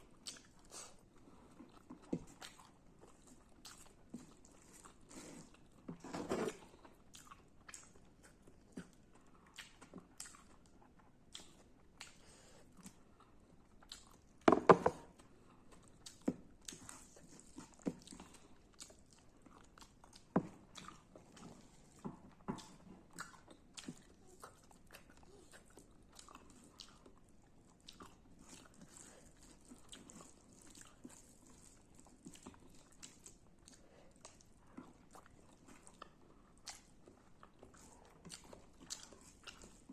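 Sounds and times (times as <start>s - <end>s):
chewing and crunching: 0.0s - 39.9s.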